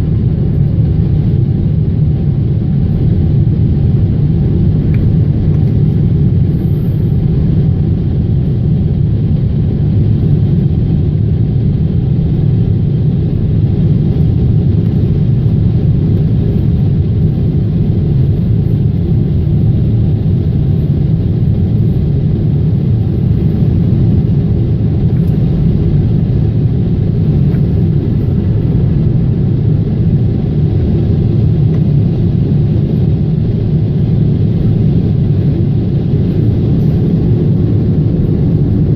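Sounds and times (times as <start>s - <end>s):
jet engines rumbling in flight: 0.0s - 38.9s.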